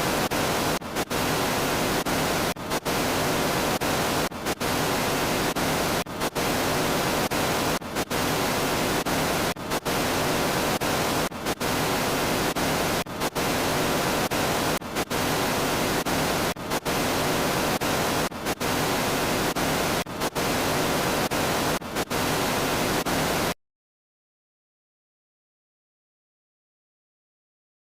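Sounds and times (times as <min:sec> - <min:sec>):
static hiss: 0:00.0 - 0:23.6.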